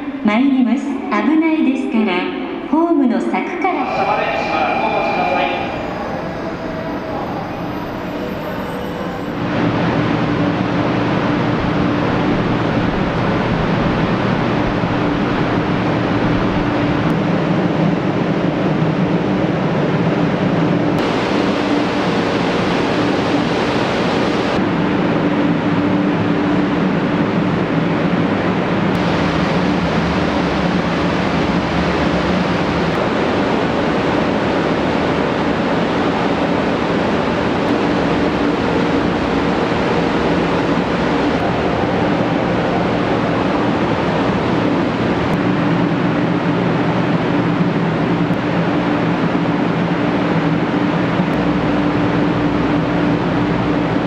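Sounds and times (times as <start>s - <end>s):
train rushing noise: 0.0s - 54.0s.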